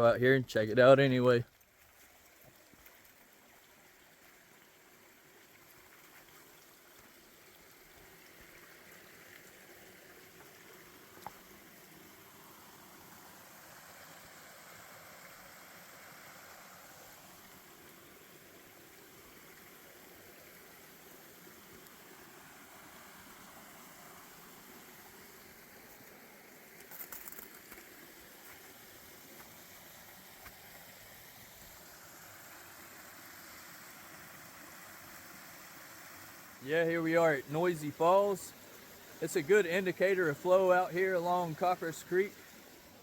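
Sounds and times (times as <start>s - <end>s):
flowing creek water: 0.0s - 43.0s.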